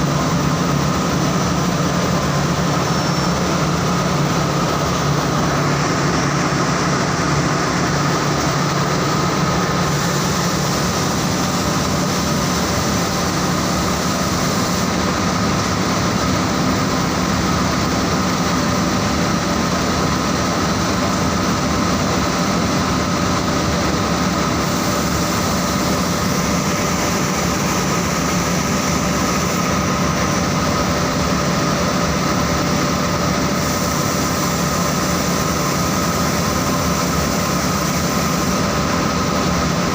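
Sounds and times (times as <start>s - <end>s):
textile machine roaring: 0.0s - 39.9s.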